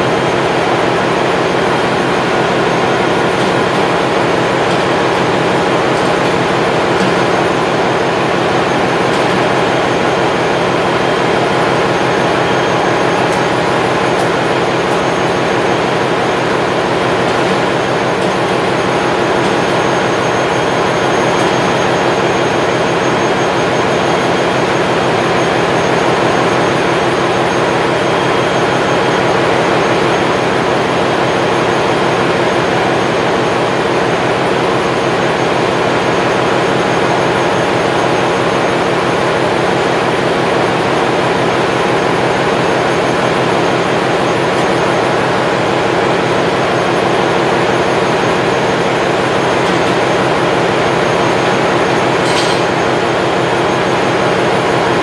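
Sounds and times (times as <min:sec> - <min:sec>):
ship engine room machinery drone: 0:00.0 - 0:55.0.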